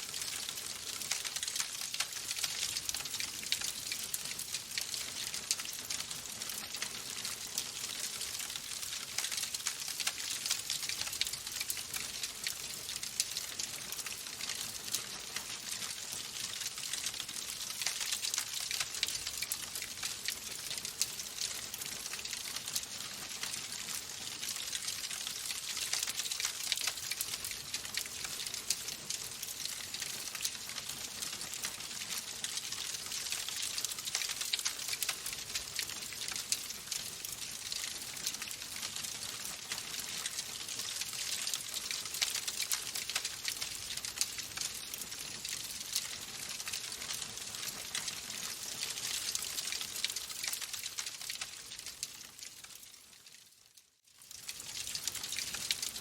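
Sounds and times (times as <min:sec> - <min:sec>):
wood fire crackling: 0:00.0 - 0:53.4, 0:54.1 - 0:56.0.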